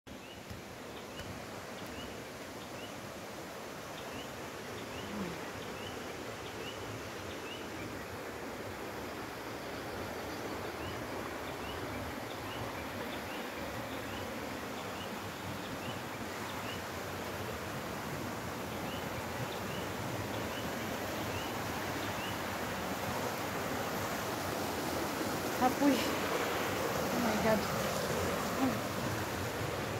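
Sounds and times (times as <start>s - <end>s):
stream rushing over stones: 0.4s - 29.9s.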